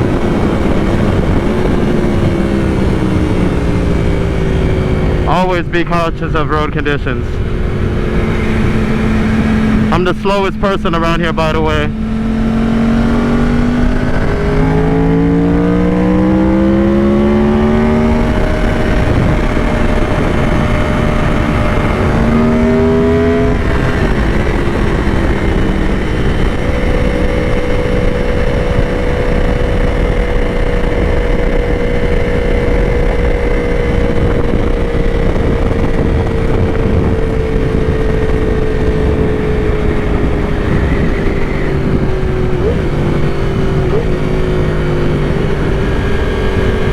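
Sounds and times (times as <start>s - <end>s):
motorcycle engine revving: 0.0s - 46.9s
wind rush: 0.0s - 46.9s.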